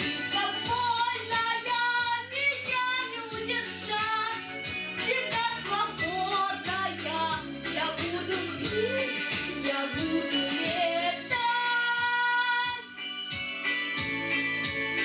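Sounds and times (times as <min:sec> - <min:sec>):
backing track with steady beat: 0:00.0 - 0:15.0
girl singing pop song: 0:00.0 - 0:15.0.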